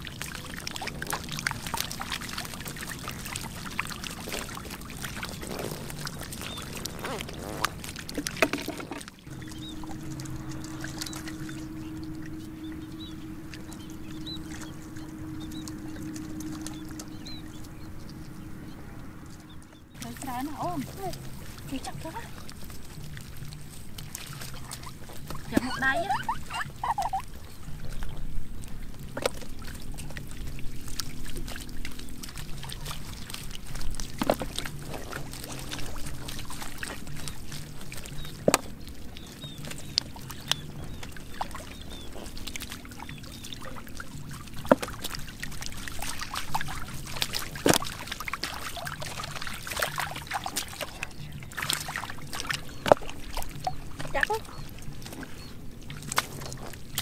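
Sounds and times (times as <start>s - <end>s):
fish flopping in water: 0.0s - 57.0s
splashing in muddy water: 0.0s - 57.0s.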